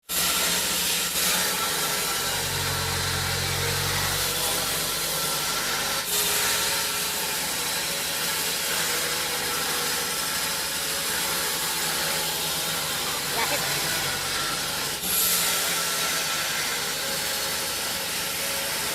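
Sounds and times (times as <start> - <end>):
sawmill saw cutting log: 0.0 - 18.9.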